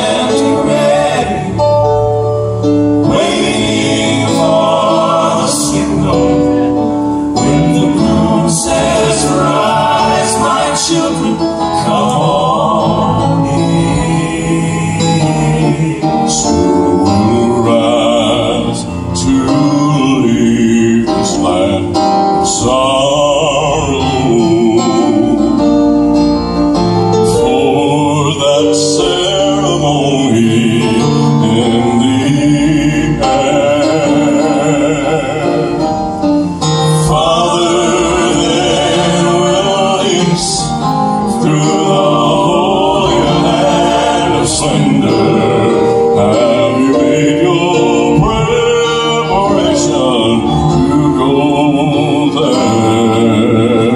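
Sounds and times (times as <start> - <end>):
grand piano: 0.0 - 53.9
male vocal quartet singing: 0.0 - 53.9.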